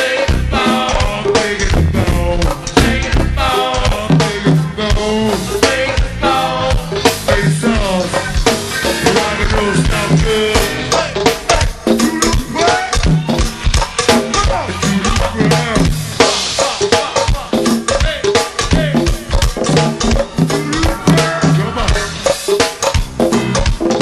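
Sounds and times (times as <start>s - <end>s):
person singing: 0.0s - 13.5s, 14.2s - 22.4s
drum kit and hand percussion: 0.0s - 24.0s.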